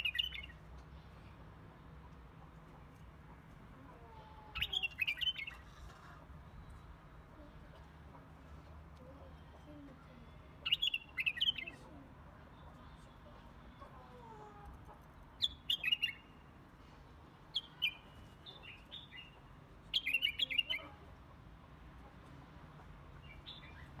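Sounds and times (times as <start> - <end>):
small birds chirping: 0.0 - 16.6, 17.4 - 21.3, 22.8 - 24.0.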